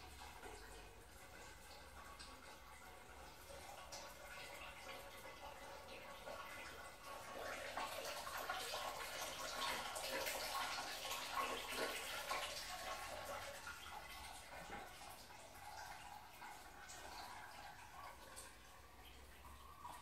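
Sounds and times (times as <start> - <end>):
liquid dripping and splashing: 0.0 - 20.0.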